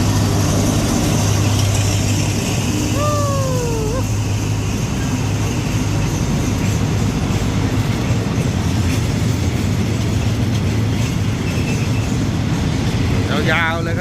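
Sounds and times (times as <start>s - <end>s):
locomotive engine drone: 0.0s - 14.0s
wheels rumbling on rail: 0.0s - 14.0s.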